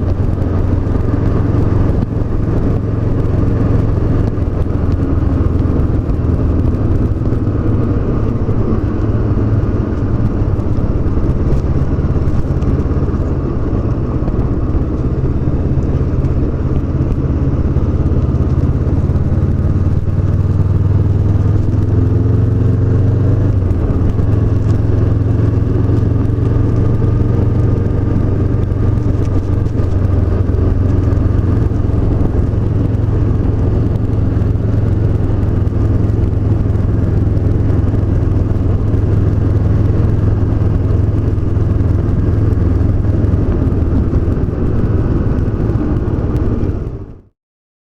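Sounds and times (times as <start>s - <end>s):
motorcycle engine cruising: 0.0s - 47.3s.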